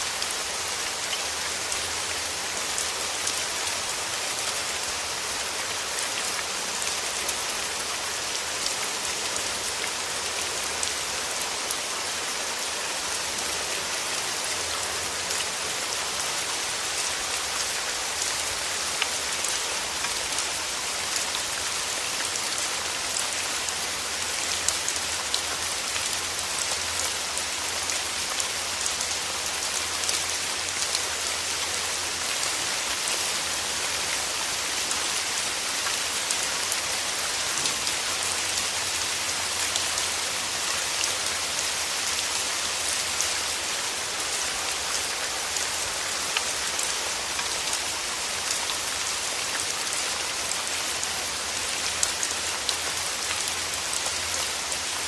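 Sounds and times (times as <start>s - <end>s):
rain falling on petals: 0.0s - 55.0s.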